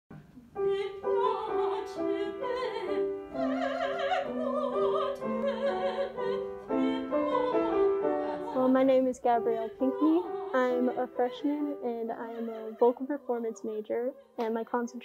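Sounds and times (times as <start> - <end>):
piano accompaniment: 0.5 - 15.0
woman singing operatic style: 0.6 - 15.0.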